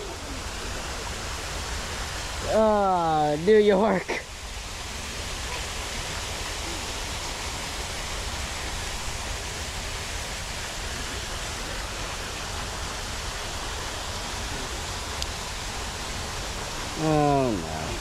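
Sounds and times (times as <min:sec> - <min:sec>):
water rushing over waterfall: 0:00.0 - 0:18.0.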